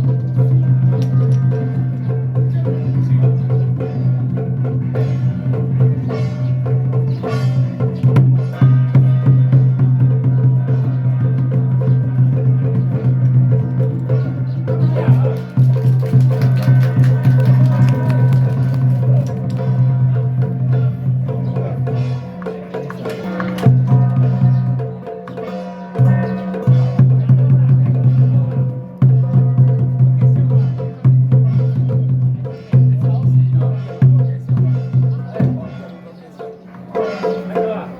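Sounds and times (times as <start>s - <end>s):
quick regular knocking beats: 0.0s - 37.9s
rapid drum and wood block clacks: 0.0s - 37.9s.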